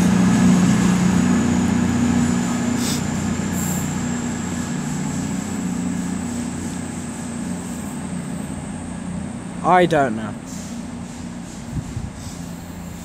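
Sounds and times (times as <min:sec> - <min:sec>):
diesel train engines humming: 0:00.0 - 0:13.0.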